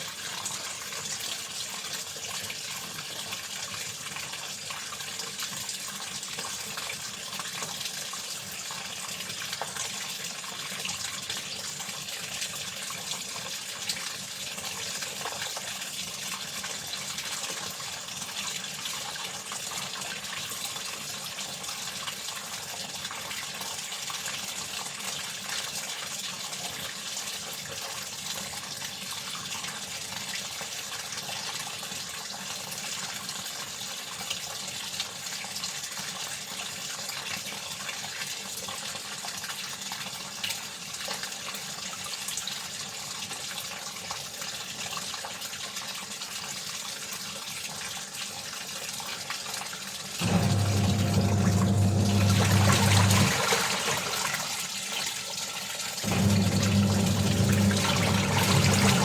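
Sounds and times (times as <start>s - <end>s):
water running from tap: 0.0s - 43.6s, 44.2s - 59.0s.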